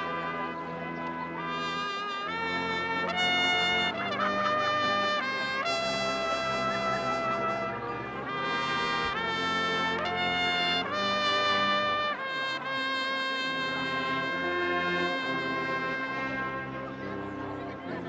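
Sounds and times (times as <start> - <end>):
marching wind band chords: 0.0 - 18.0.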